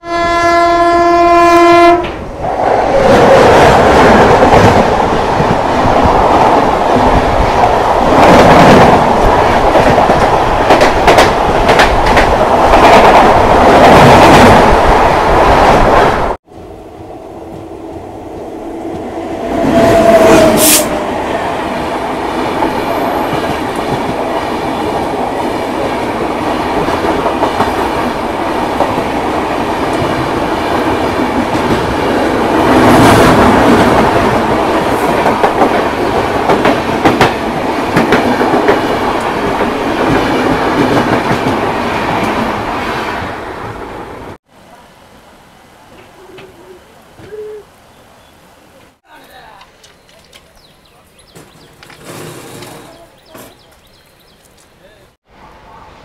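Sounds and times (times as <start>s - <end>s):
express train running on rails: 0.0s - 54.4s.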